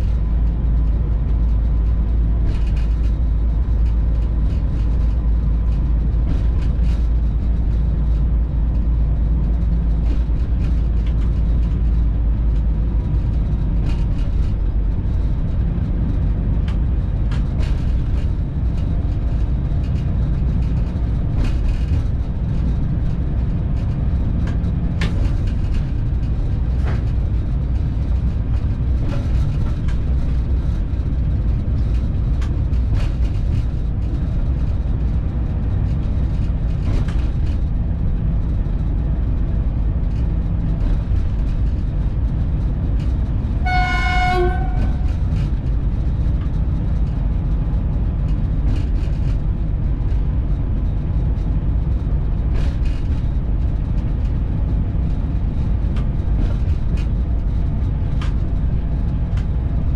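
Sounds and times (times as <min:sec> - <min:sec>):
locomotive low drone: 0:00.0 - 0:59.9
wheels clicking on track: 0:00.0 - 0:59.9.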